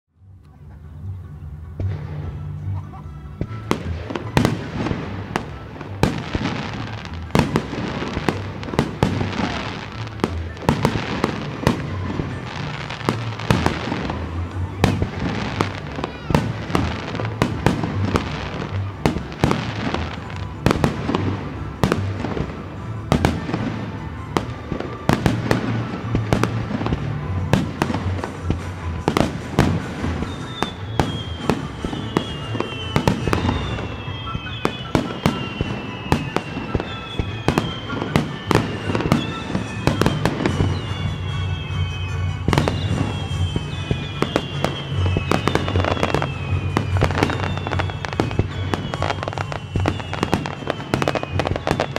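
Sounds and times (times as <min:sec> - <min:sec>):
music playing: 0:00.1 - 0:51.9
fireworks bangs and crackle: 0:01.7 - 0:51.9
falling firework whistle: 0:03.4 - 0:51.9.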